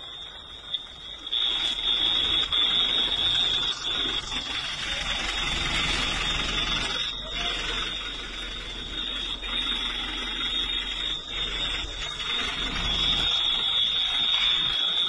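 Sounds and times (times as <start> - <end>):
high-pitched alarm tone: 0.0 - 15.0
steady hiss: 0.0 - 15.0.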